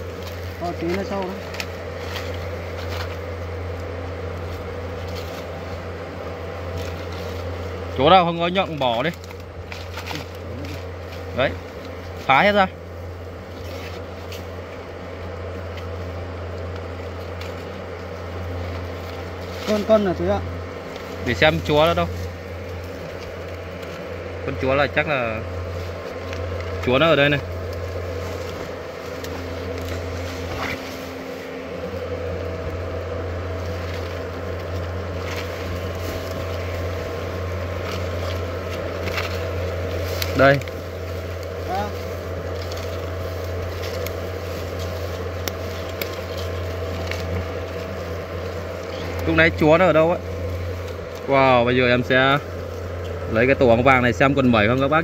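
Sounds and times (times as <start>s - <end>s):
faint crackles of papery comb: 0.0s - 55.0s
hornets buzzing: 0.0s - 55.0s
steady low hum: 0.0s - 55.0s.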